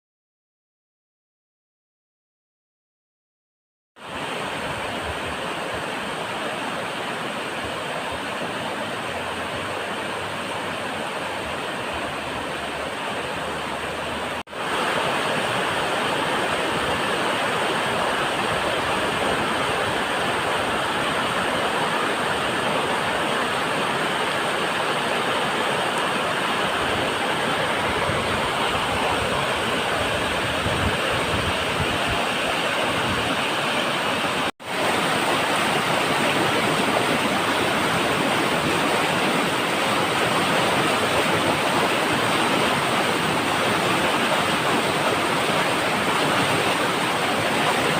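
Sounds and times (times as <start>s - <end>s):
waterfall rushing: 4.0s - 47.9s.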